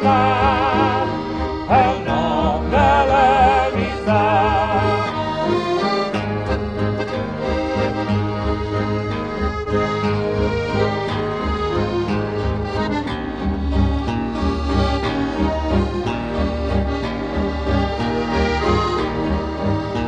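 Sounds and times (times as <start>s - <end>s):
accordion: 0.0s - 20.0s
steady bass line: 0.0s - 20.0s.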